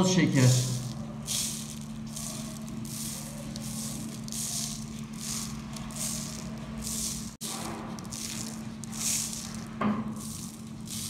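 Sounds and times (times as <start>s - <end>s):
steady low hum: 0.0s - 11.0s
sugar sprinkled on dough: 0.0s - 11.0s.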